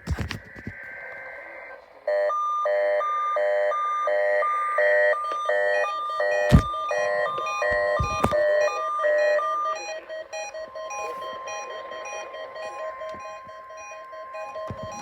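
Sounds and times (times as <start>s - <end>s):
two-tone alternating beep: 2.1s - 15.0s.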